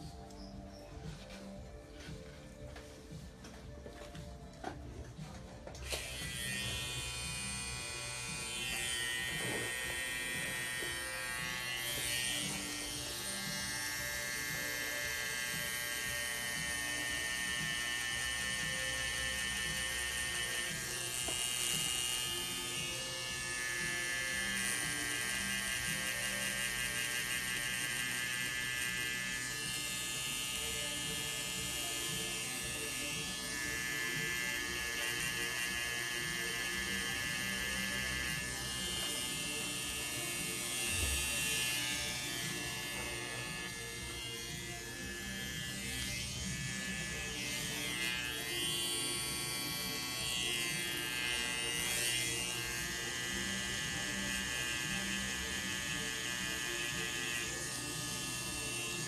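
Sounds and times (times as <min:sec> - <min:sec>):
tattoo machine buzzing: 0:05.8 - 0:59.0.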